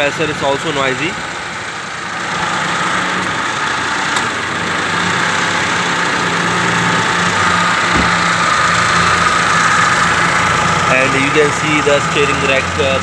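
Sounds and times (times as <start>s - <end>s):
car engine idling: 0.0s - 13.0s
drive belt and compressor whine: 0.0s - 13.0s.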